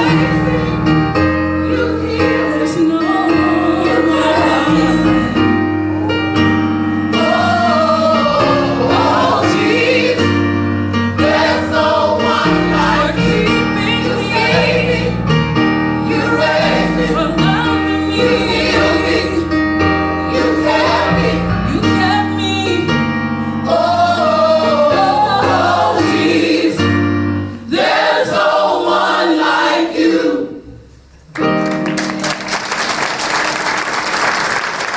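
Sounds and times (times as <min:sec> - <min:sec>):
gospel group singing in harmony: 0:00.0 - 0:30.9
bass and keyboard: 0:00.0 - 0:34.9.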